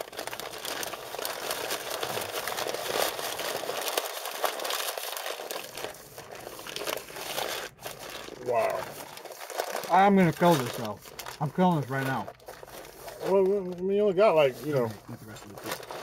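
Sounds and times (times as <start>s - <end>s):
paper wrappers crinkling: 0.0s - 16.0s.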